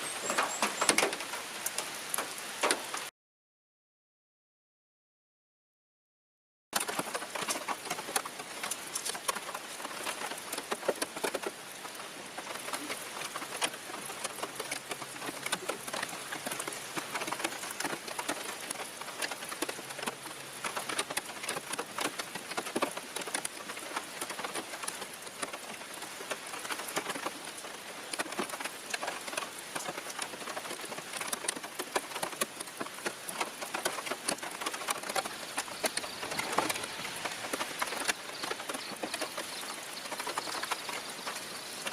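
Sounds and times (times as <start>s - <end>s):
rain pattering: 0.0s - 3.1s, 6.8s - 41.9s.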